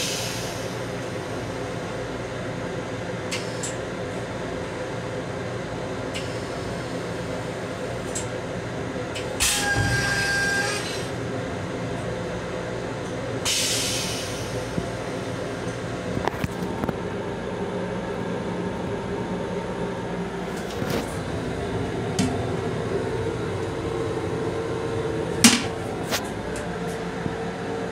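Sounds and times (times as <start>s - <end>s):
railcar hum and rumble: 0.0s - 27.9s.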